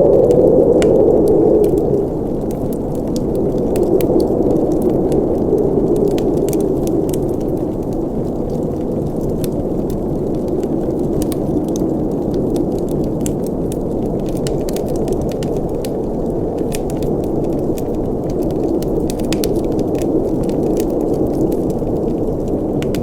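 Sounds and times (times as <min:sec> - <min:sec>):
burning wood crackling: 0:00.0 - 0:23.0
fire roaring: 0:00.0 - 0:23.0.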